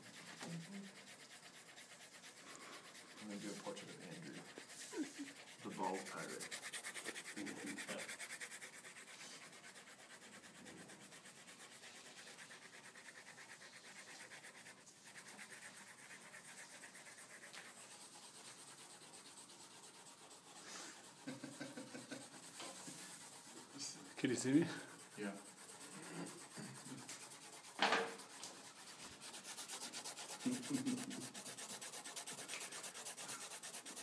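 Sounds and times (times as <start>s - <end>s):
pencils scratching on paper: 0.0s - 34.0s.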